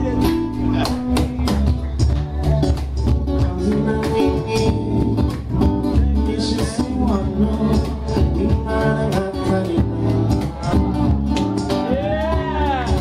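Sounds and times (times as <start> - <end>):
acoustic guitars playing: 0.0 - 13.0
cajon percussive hits: 0.0 - 13.0.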